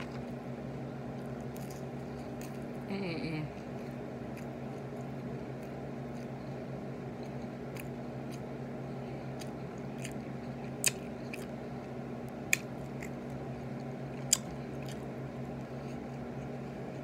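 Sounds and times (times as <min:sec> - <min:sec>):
low hum: 0:00.0 - 0:17.0
person chewing: 0:01.1 - 0:02.8, 0:03.6 - 0:17.0.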